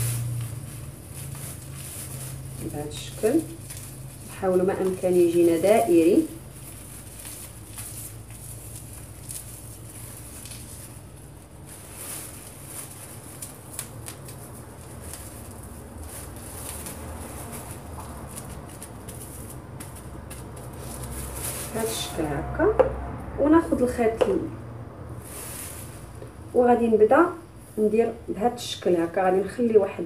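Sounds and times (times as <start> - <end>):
plastic bag rustling and crinkling: 0.0 - 23.1, 25.1 - 28.2.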